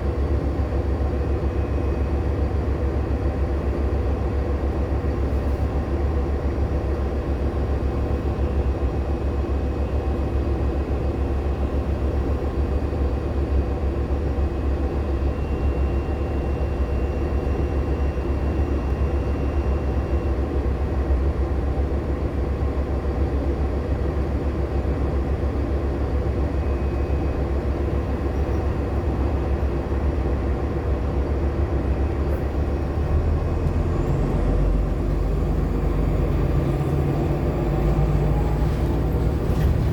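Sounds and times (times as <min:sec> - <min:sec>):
bus interior drone: 0:00.0 - 0:39.9.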